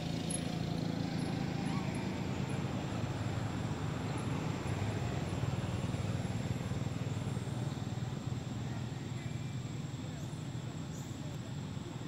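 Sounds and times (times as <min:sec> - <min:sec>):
continuous low rumble with hiss: 0:00.0 - 0:12.0.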